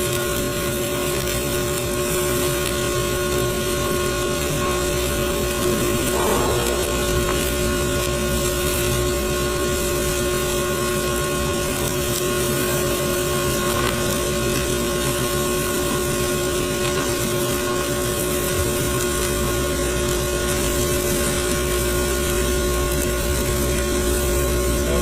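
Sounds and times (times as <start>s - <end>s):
welding arc hissing and crackling: 0.0s - 25.0s
constant hum: 1.0s - 25.0s.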